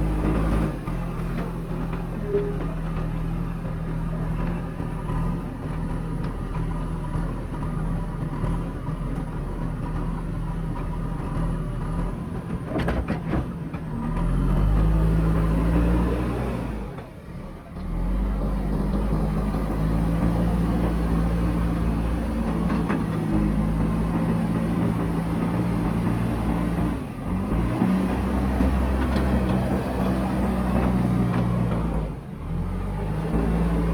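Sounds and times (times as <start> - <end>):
diesel engine working: 0.0 - 33.9.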